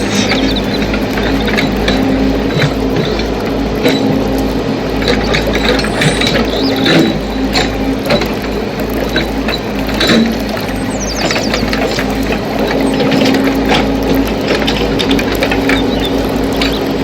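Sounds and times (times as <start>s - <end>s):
ratcheting clicks and knocks: 0.0s - 17.0s.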